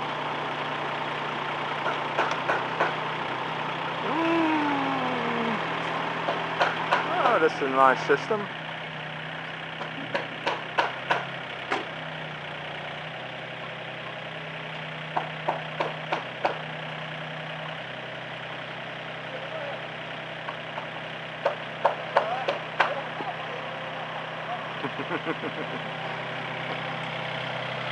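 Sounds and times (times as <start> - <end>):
heavy vehicle engine idling: 0.0 - 27.9.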